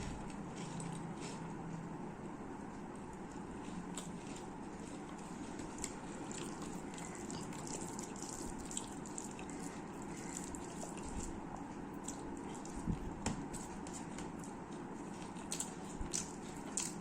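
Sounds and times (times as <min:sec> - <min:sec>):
person chewing food: 0:00.0 - 0:01.6, 0:03.0 - 0:17.0.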